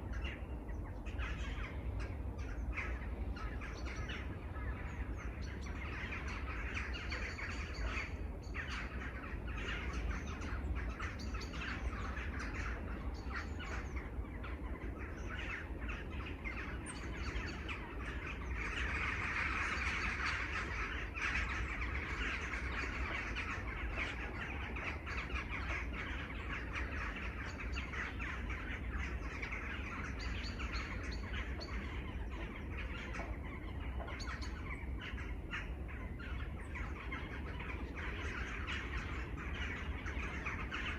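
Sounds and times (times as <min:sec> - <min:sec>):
birds chirping in chorus: 0:00.0 - 0:40.9
steady low rumble: 0:00.0 - 0:40.9.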